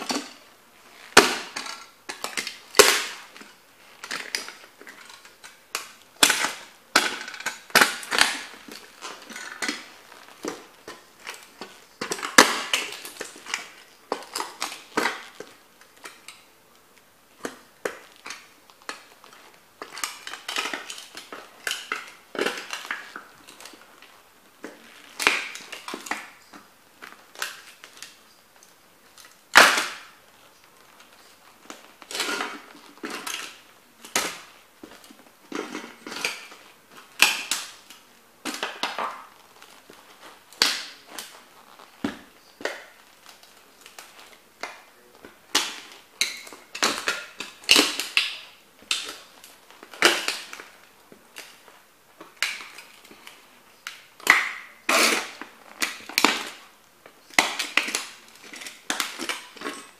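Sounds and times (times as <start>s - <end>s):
boots crushing plastic toy car: 0.0s - 28.2s, 29.1s - 59.9s.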